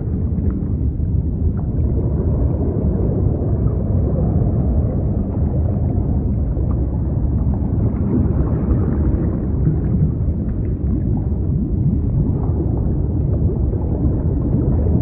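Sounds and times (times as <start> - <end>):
deep underwater rumbling: 0.0 - 15.0.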